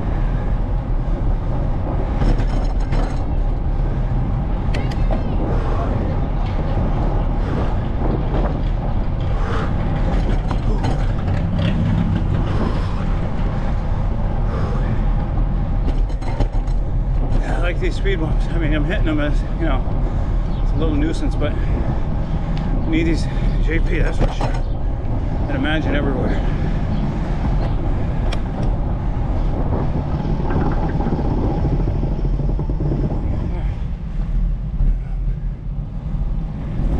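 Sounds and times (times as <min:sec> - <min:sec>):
road rumble: 0:00.0 - 0:36.9
tyre noise on street: 0:00.0 - 0:36.9
wind buffeting microphone: 0:00.0 - 0:36.9
bike rattling over speed bump: 0:01.0 - 0:35.0.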